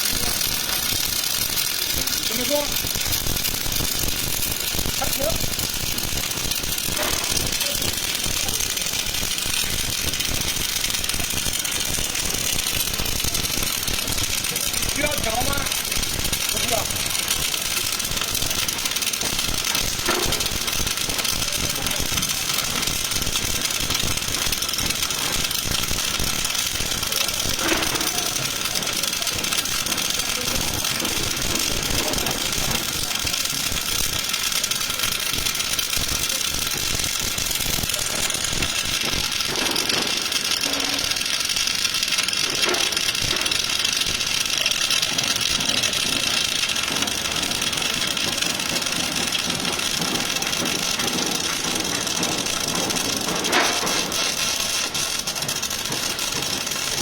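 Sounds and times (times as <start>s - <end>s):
welding arc crackling: 0.0s - 57.0s.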